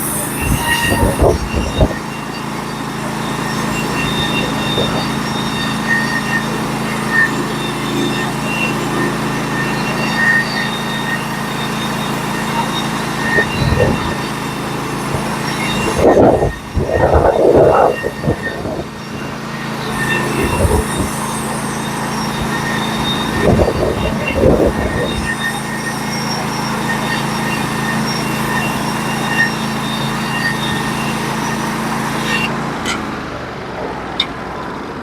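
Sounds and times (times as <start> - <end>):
loud scraping: 0.0 - 33.3
saw band cutting: 0.0 - 33.4
band sawmill engine hum: 0.0 - 35.0.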